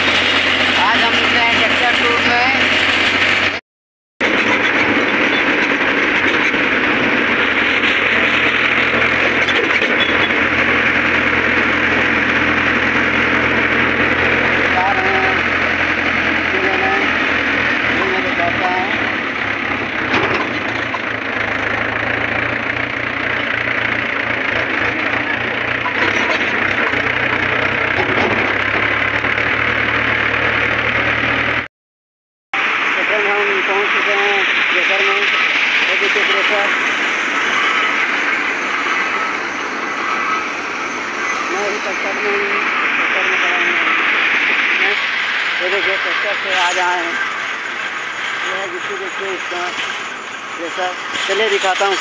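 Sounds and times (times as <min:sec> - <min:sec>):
tractor diesel engine running: 0:00.0 - 0:03.6, 0:04.2 - 0:31.7, 0:32.6 - 0:52.0.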